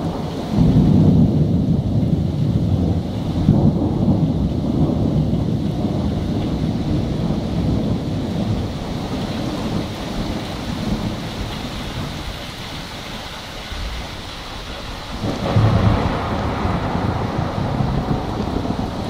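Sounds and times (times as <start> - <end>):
rolling thunder: 0.0 - 12.7, 14.8 - 19.0
heavy rain: 0.0 - 19.0.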